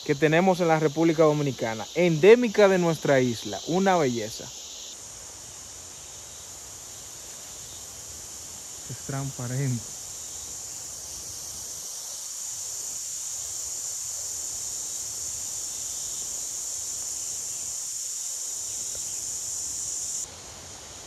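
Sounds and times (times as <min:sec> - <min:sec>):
insect chorus shrilling: 0:00.0 - 0:21.0.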